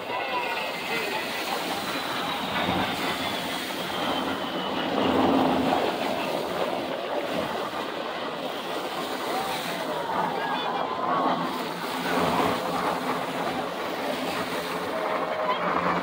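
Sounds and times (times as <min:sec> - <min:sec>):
helicopter rotor and engine rumble: 0:00.0 - 0:16.0.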